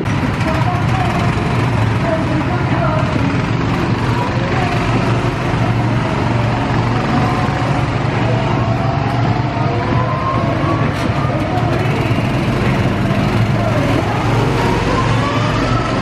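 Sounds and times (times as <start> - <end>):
engine whine rising in pitch: 0.0 - 16.0
go-kart engines running: 0.0 - 16.0.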